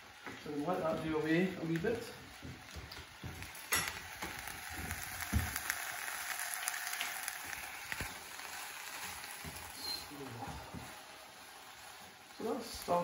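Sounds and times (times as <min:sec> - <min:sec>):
food sizzling in a saucepan: 0:00.0 - 0:13.0.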